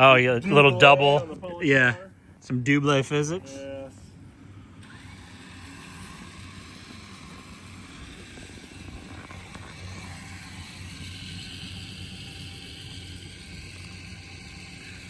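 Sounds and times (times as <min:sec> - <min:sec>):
high whine: 0:00.0 - 0:15.0
truck humming: 0:00.0 - 0:15.0
winch running: 0:00.0 - 0:15.0.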